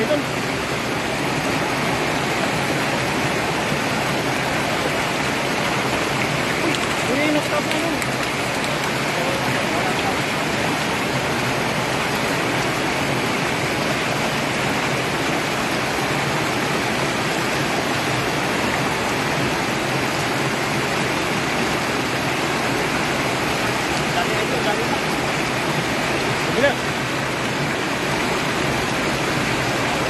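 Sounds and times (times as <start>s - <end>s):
water rushing through concrete channel: 0.0s - 30.0s.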